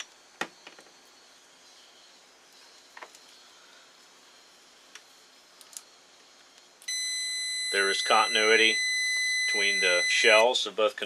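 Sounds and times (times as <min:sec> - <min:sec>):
low hiss: 0:00.0 - 0:11.0.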